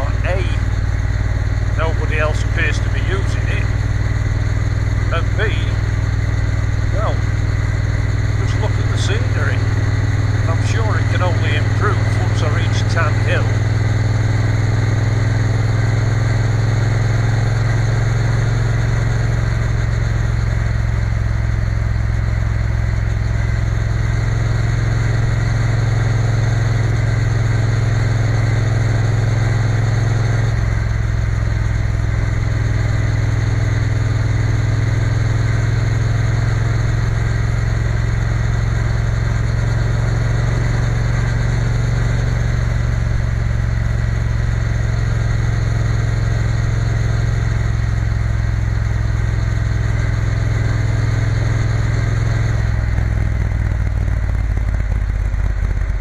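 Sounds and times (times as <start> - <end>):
motorcycle engine droning: 0.0 - 56.0.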